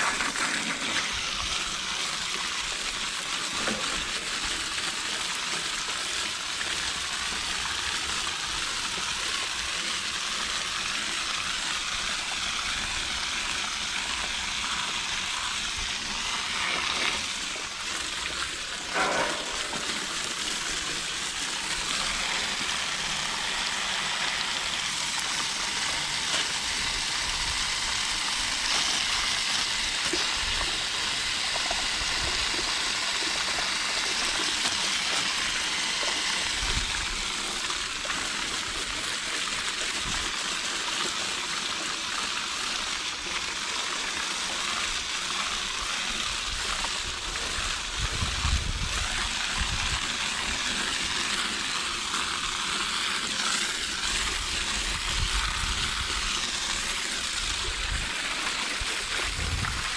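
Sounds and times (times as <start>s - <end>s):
hose spraying water on metal fins: 0.0s - 59.9s.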